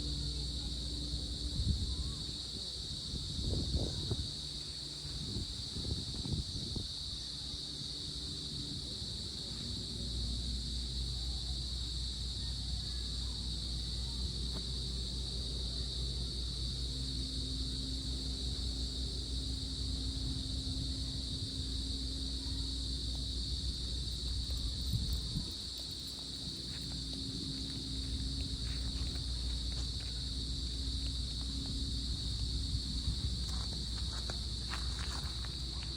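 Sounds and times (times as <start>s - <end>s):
crickets chirring: 0.0s - 35.9s.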